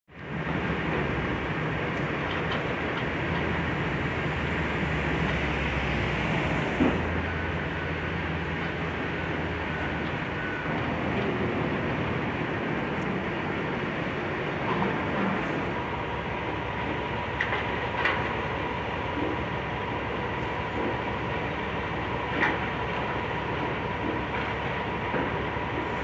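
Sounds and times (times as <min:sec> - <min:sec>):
excavator diesel engine running: 0:00.1 - 0:26.0.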